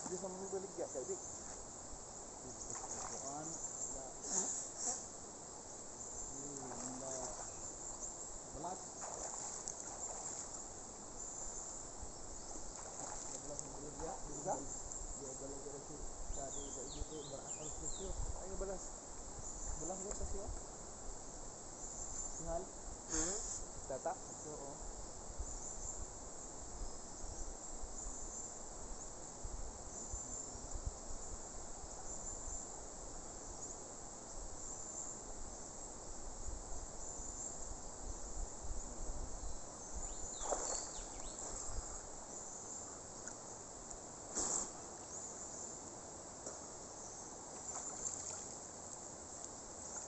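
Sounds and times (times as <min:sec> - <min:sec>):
insect chorus: 0:00.0 - 0:50.0.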